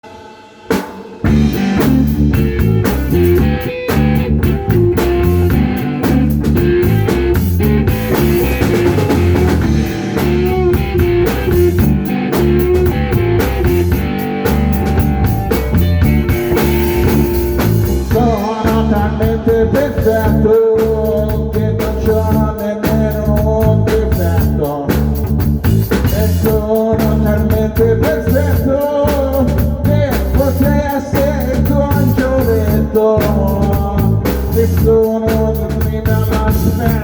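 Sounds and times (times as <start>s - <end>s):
instrumental rock music: 0.0s - 37.0s.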